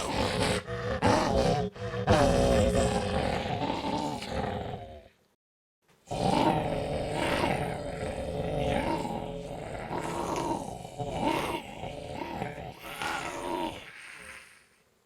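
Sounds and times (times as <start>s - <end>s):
person imitating zombie growls: 0.0s - 5.1s, 6.1s - 14.8s.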